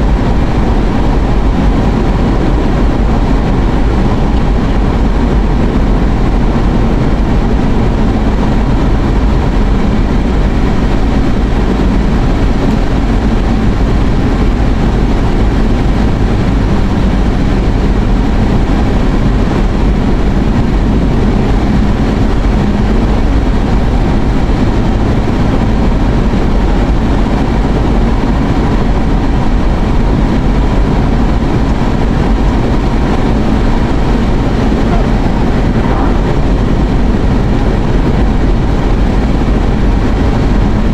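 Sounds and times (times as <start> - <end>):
car driving heard from inside: 0.0 - 40.9.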